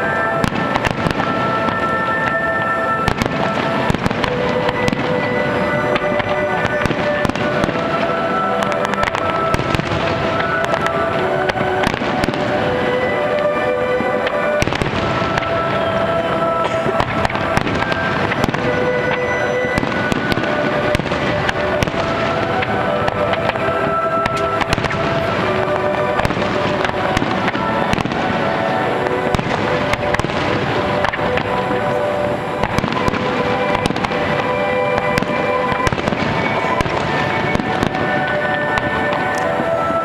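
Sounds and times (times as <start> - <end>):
fireworks bursting: 0.0 - 40.0
music with long held notes: 0.0 - 40.0.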